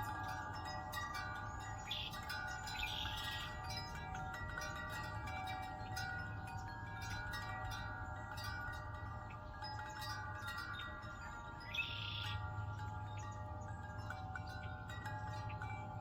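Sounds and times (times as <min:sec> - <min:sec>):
wind chimes ringing: 0:00.0 - 0:16.0.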